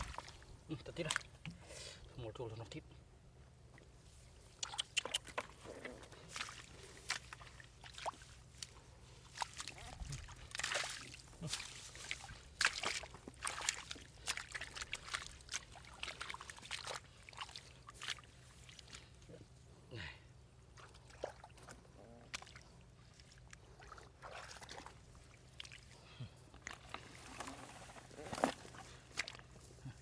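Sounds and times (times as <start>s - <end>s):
water splashing and sloshing: 0.0s - 1.6s, 3.6s - 19.4s, 20.6s - 29.9s.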